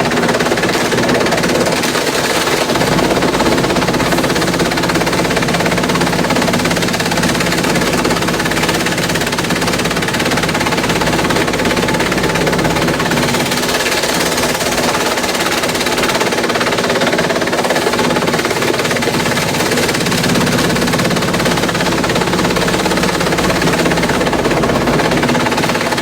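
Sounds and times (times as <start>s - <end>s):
low machine hum: 0.0s - 26.0s
shredder clattering: 0.0s - 26.0s.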